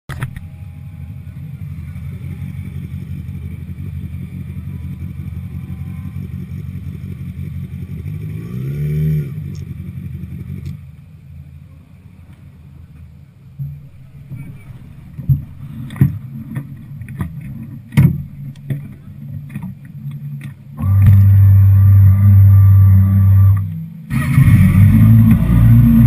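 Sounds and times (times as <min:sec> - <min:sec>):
motorcycle engine idling: 0:00.2 - 0:08.5, 0:09.3 - 0:24.3.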